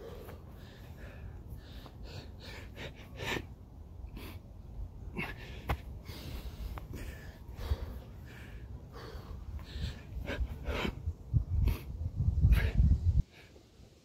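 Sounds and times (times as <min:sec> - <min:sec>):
person breathing hard: 0:00.0 - 0:04.5, 0:05.1 - 0:13.6.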